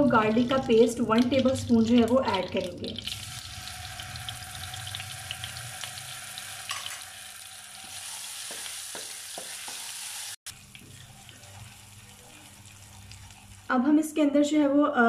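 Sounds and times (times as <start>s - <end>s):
food sizzling in hot oil: 0.0s - 13.8s.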